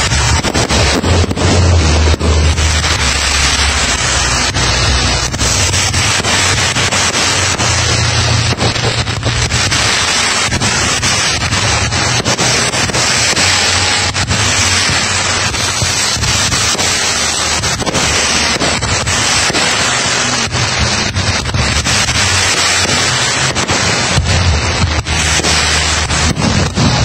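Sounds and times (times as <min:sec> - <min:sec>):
fireworks popping and crackling: 0:00.0 - 0:27.0
low rumble: 0:00.0 - 0:27.0
steady hiss: 0:00.0 - 0:27.0.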